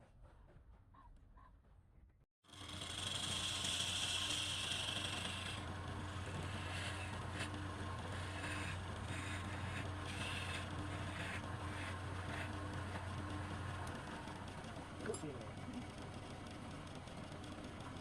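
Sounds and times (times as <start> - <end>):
turning tool scraping wood: 2.5 - 18.0
wood lathe humming: 2.5 - 18.0.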